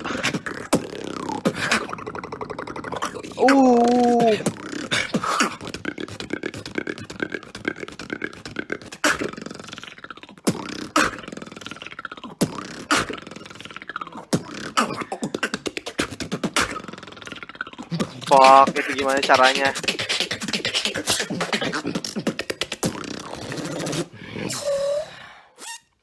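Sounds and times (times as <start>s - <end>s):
beatboxing: 0.0s - 25.9s.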